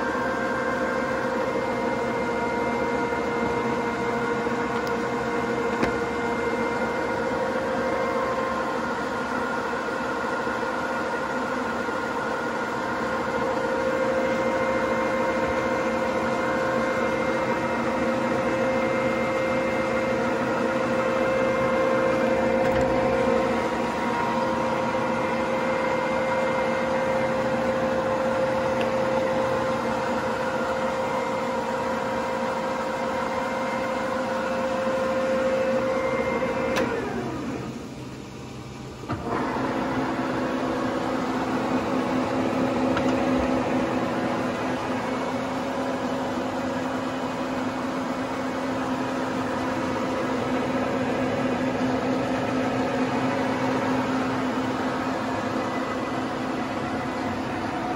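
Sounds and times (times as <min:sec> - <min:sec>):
lathe gears whining: 0:00.0 - 0:37.9, 0:38.6 - 0:57.9.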